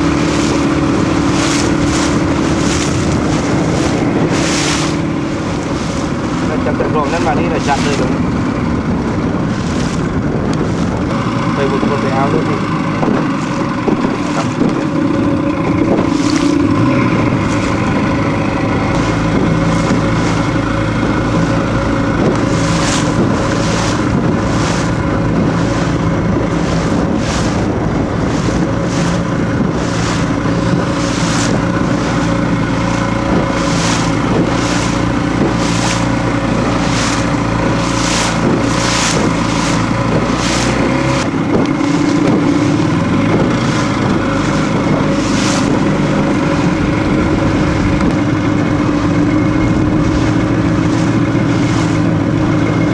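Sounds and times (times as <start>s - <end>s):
motorboat engine running: 0.0s - 52.9s
water rushing: 0.0s - 52.9s.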